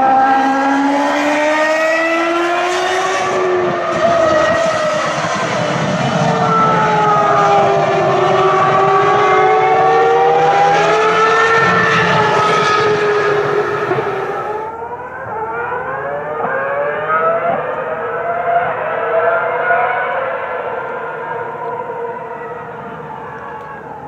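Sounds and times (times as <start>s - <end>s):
racing car engines revving: 0.0s - 24.0s.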